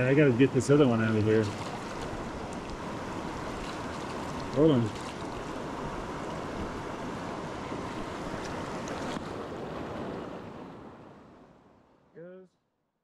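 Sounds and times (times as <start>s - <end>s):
river current rushing: 0.0s - 11.8s.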